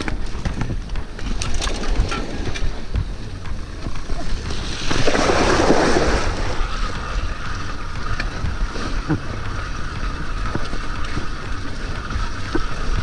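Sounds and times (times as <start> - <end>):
bike tyres rumbling over rough ground: 0.0 - 13.0.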